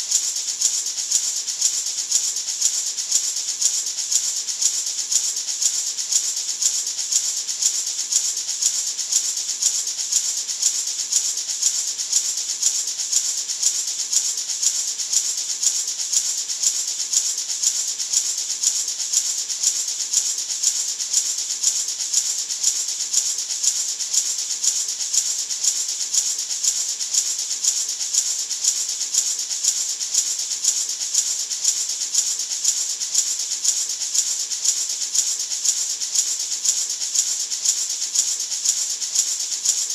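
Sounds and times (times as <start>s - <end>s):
maraca shaking: 0.0s - 39.9s.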